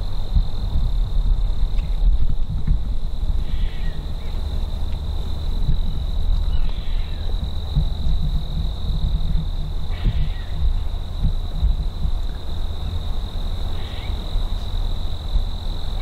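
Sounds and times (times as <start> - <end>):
wind rumble on microphone: 0.0 - 16.0
high-pitched insect trill: 2.9 - 16.0.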